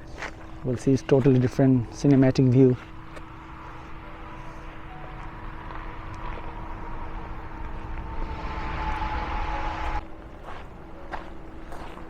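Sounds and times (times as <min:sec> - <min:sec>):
distant engine drone: 0:01.8 - 0:11.6.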